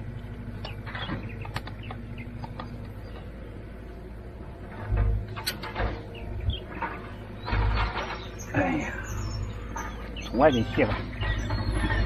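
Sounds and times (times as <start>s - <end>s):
small birds chirping: 0.0s - 4.4s, 5.8s - 12.0s.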